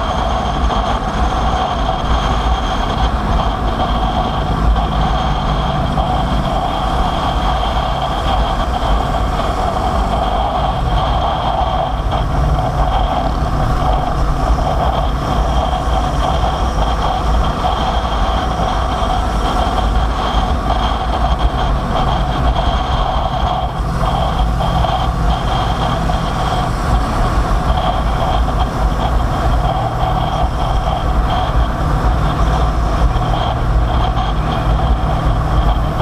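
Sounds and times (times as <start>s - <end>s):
motorcycle engine droning: 0.0s - 36.0s.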